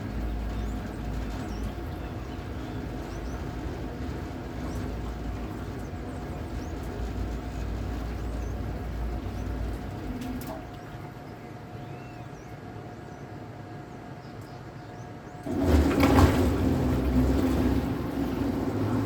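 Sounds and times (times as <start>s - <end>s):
faint steady hum: 0.0s - 15.5s.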